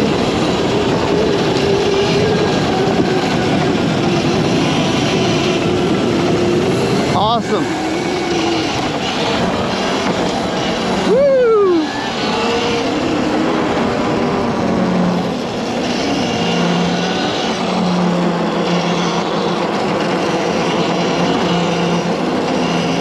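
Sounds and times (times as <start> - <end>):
electric motor whine: 0.0 - 23.0
steady rushing noise: 0.0 - 23.0.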